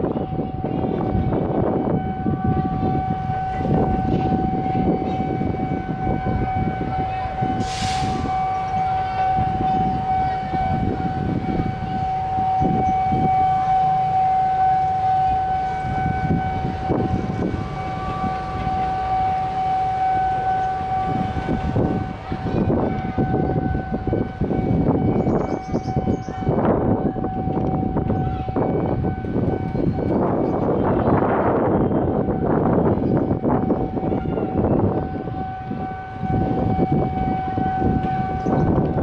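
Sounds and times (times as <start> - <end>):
steady warning siren tone: 0.0 - 39.0.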